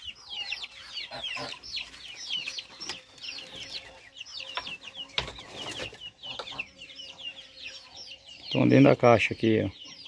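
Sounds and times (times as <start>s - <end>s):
chicks peeping: 0.0s - 10.0s.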